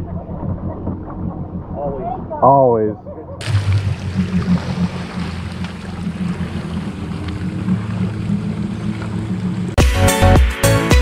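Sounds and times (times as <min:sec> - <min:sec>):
water rushing: 0:00.0 - 0:09.8
jet ski engine running: 0:00.0 - 0:10.2.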